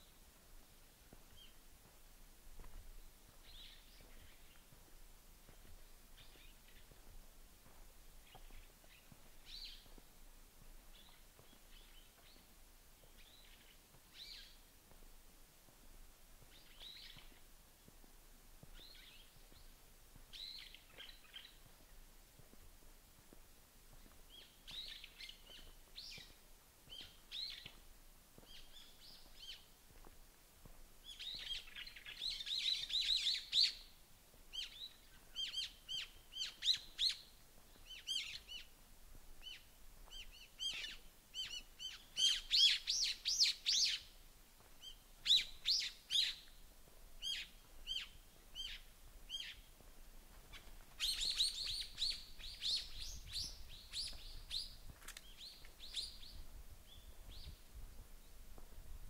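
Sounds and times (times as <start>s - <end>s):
small songbirds chirping: 1.0s - 1.7s, 2.7s - 7.2s, 8.1s - 14.7s, 16.4s - 18.0s, 18.6s - 22.2s, 24.0s - 29.8s, 31.0s - 58.6s.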